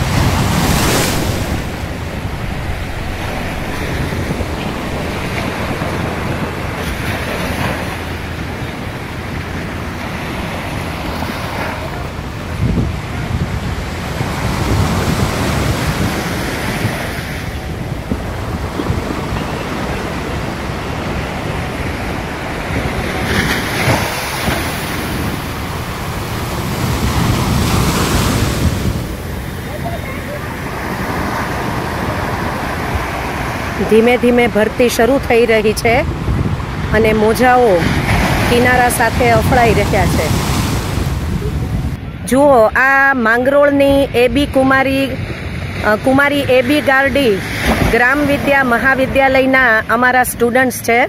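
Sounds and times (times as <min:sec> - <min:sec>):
small waves washing up shore: 0:00.0 - 0:42.3, 0:45.1 - 0:49.8
wind buffeting microphone: 0:00.0 - 0:49.9.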